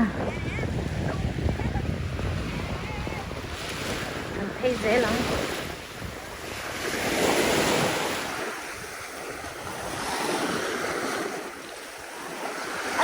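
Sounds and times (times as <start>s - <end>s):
waves washing onto shore: 0.0s - 13.0s
wind buffeting microphone: 0.0s - 13.0s.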